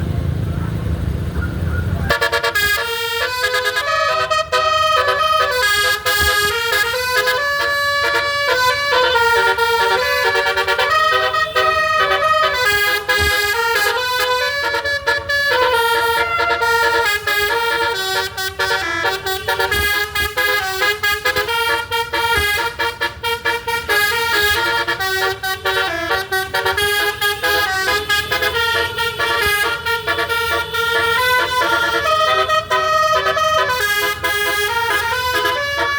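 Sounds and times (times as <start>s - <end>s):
bus musical horn playing a tune: 2.0s - 35.9s.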